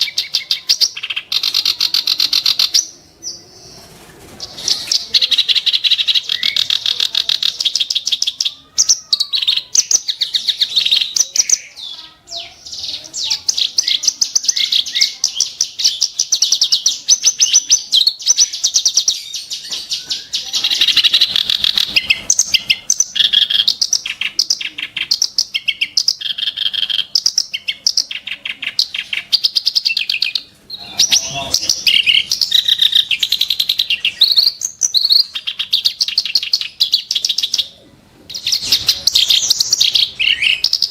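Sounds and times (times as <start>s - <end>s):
reed warbler chattering song: 4.5s - 37.6s.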